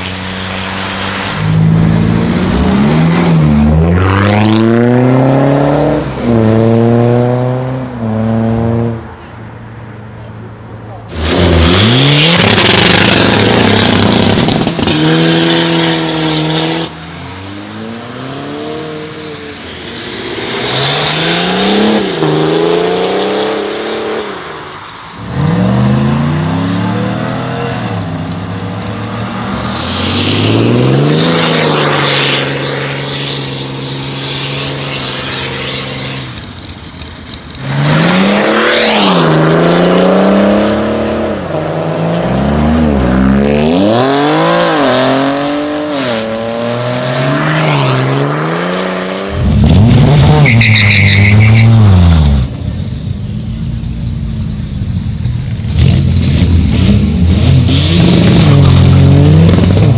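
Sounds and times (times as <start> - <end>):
diesel cars accelerating hard: 0.0 - 9.1, 11.1 - 52.7, 55.4 - 59.9.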